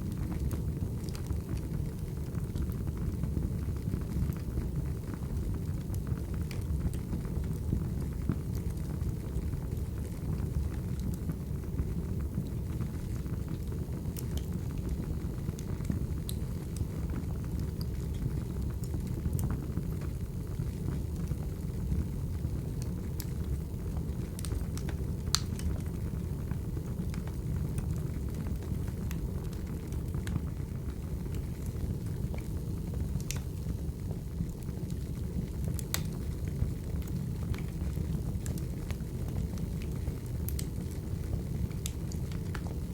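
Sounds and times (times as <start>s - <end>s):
firewood crackling and popping: 0.0s - 42.9s
low rumble of flames: 0.0s - 42.9s.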